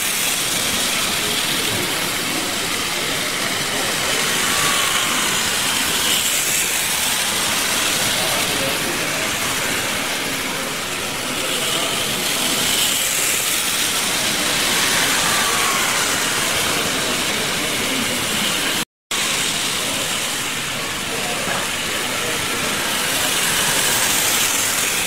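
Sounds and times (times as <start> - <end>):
model trains running on track: 0.0 - 25.0
rushing hall noise: 0.0 - 25.0.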